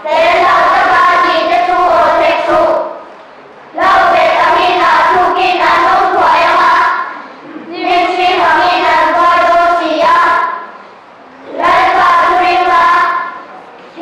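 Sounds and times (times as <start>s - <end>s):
children's choir singing: 0.0s - 3.1s, 3.7s - 10.8s, 11.4s - 14.0s.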